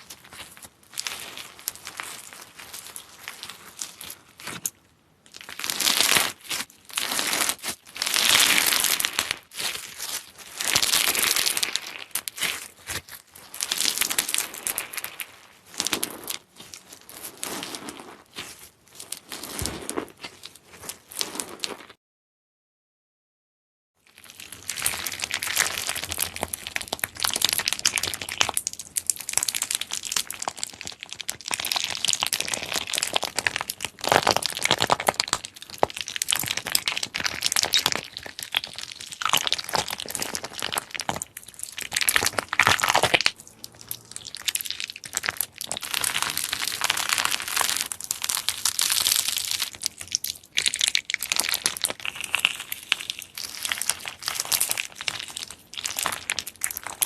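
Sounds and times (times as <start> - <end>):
slime crackling and popping: 0.0 - 22.0, 24.1 - 57.0.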